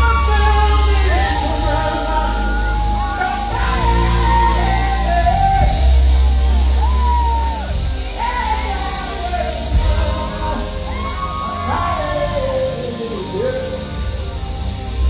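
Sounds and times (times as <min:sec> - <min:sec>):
person singing: 0:00.0 - 0:14.4
heavy bass: 0:00.0 - 0:15.0
live band playing: 0:00.0 - 0:15.0.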